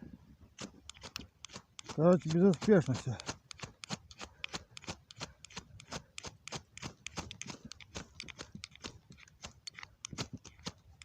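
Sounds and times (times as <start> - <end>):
fire-starter rod scraped with striker: 0.6 - 11.0.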